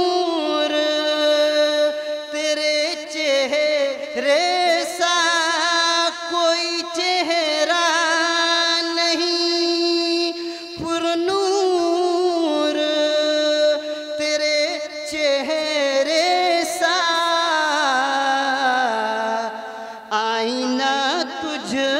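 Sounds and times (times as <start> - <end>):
man singing into a microphone: 0.0 - 21.9.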